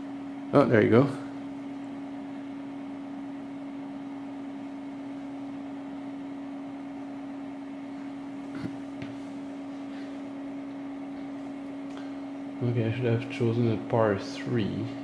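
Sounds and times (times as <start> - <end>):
equipment humming: 0.0 - 15.0.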